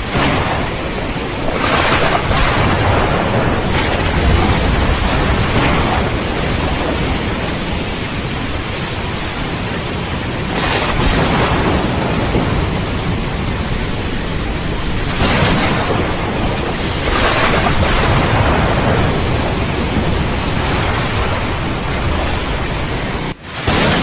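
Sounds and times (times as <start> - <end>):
heavy rain hiss: 0.0 - 24.0
rolling thunder rumble: 0.0 - 24.0.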